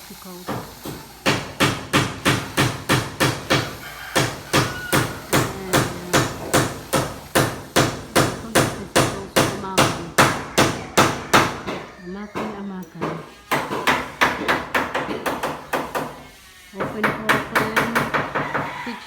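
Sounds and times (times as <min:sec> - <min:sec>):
hammer driving nails: 0:00.4 - 0:18.8.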